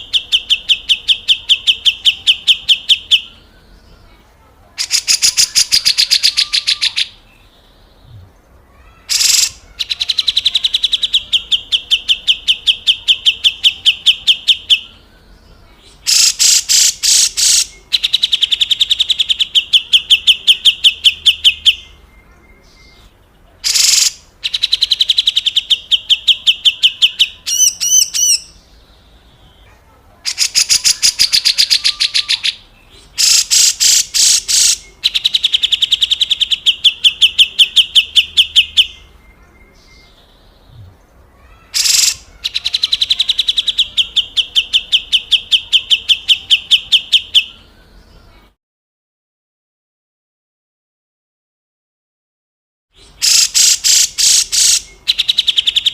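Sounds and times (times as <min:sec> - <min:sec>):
bird warbled phrase: 0:00.0 - 0:07.3, 0:08.0 - 0:15.0, 0:15.8 - 0:22.6, 0:23.6 - 0:28.6, 0:29.6 - 0:40.0, 0:40.6 - 0:47.7, 0:53.0 - 0:55.9.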